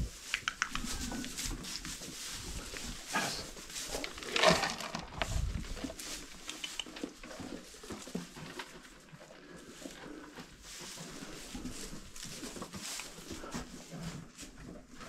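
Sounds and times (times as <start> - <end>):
rustling straw: 0.0 - 15.0.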